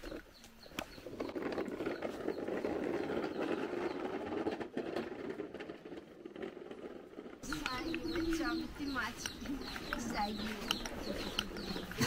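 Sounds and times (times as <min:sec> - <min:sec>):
plastic toy rattling over dirt: 0:00.0 - 0:12.0.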